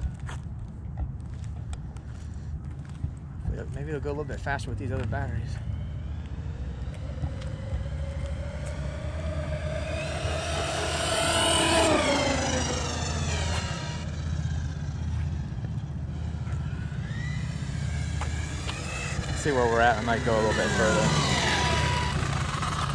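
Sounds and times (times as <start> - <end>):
rc truck motor whine: 4.1 - 22.9.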